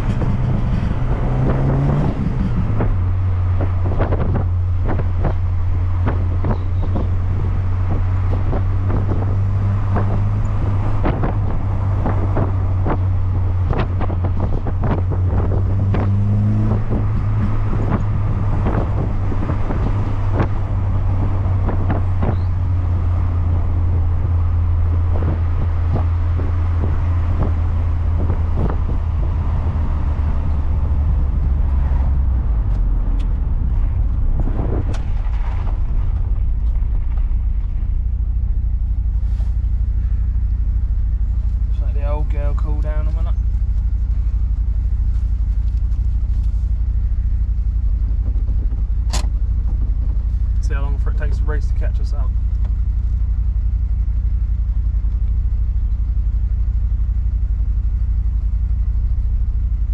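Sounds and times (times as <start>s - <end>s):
car engine cruising: 0.0s - 59.9s
road rumble: 0.0s - 59.9s.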